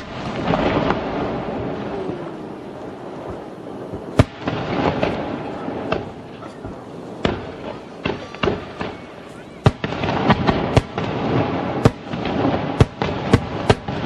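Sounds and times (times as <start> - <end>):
fireworks banging: 0.0 - 14.0
fireworks crackle and rumble: 0.0 - 14.0.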